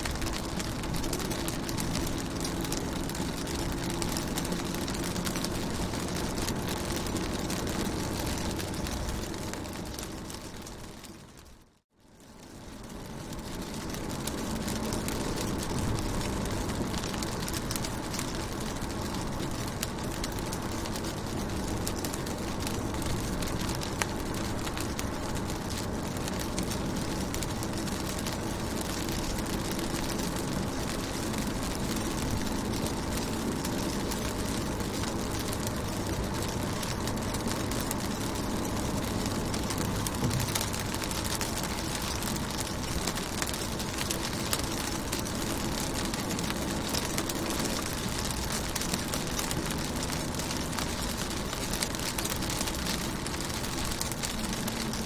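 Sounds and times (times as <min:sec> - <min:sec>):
constant low rumble: 0:00.0 - 0:55.0
rain on a car window: 0:00.0 - 0:55.0.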